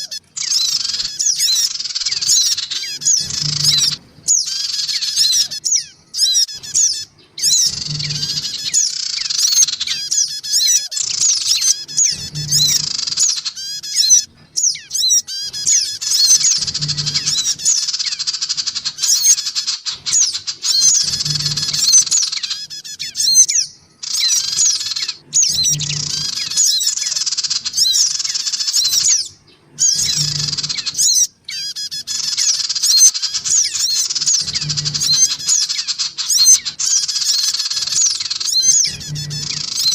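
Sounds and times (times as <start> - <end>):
recorded bird chattering calls: 0.0 - 39.9.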